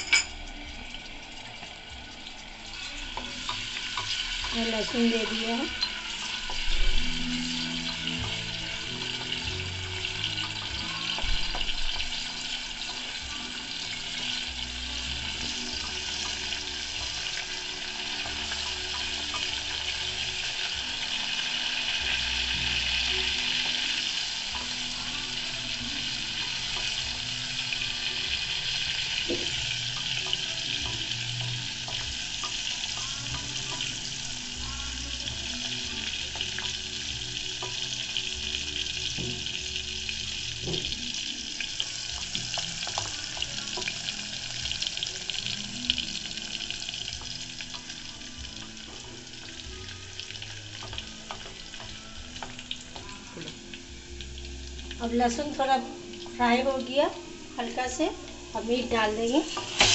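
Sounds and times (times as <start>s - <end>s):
garlic sizzling in hot oil: 0.0s - 59.9s.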